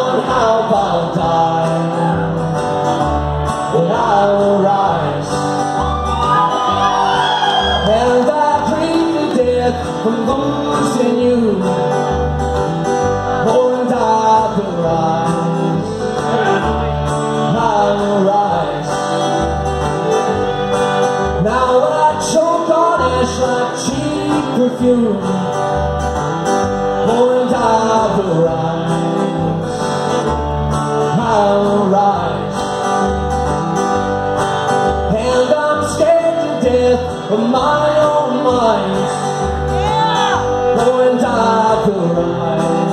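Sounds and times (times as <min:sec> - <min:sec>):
man singing: 0:00.0 - 0:02.6, 0:03.4 - 0:05.8, 0:07.6 - 0:19.5, 0:20.8 - 0:26.0, 0:26.8 - 0:33.0, 0:34.8 - 0:42.9
strummed acoustic guitar: 0:00.0 - 0:42.9.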